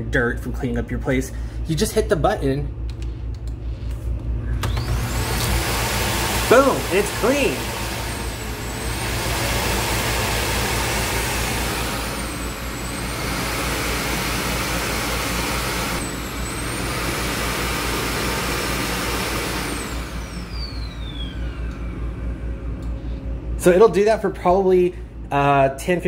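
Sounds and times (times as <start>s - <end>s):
vacuum suction with high whine: 3.6s - 25.5s.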